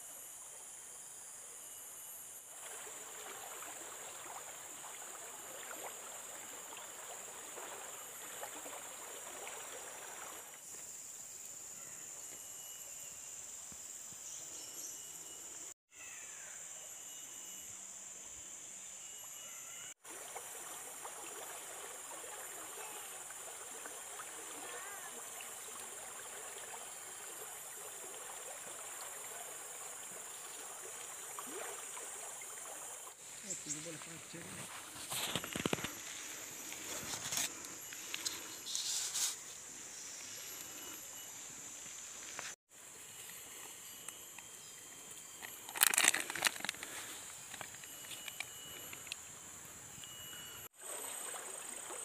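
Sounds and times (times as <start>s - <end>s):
high-pitched insect drone: 0.0s - 52.0s.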